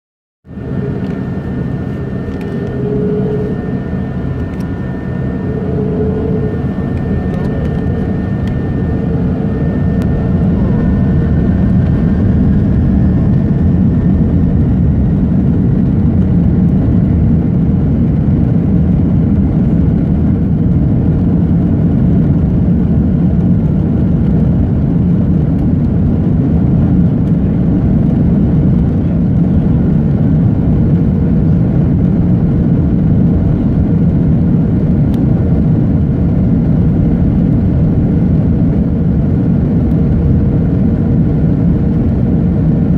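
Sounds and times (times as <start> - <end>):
jet engine cabin rumble: 0.5 - 42.9.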